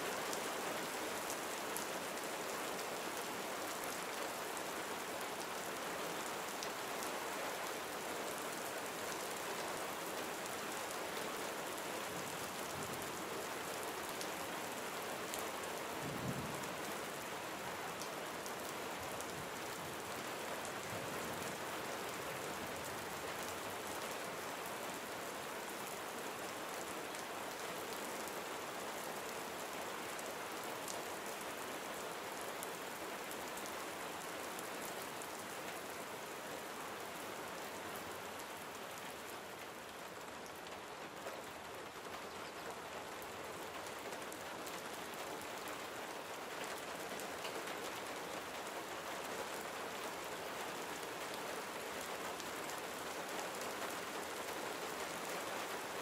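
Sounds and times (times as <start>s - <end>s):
gentle rain pattering: 0.0s - 56.0s.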